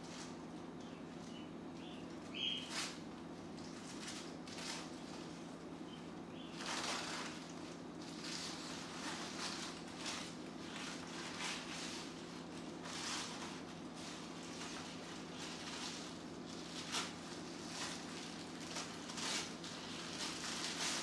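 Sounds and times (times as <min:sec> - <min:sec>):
steady low hum: 0:00.0 - 0:21.0
paper rustling and crinkling: 0:02.4 - 0:05.6, 0:06.5 - 0:21.0.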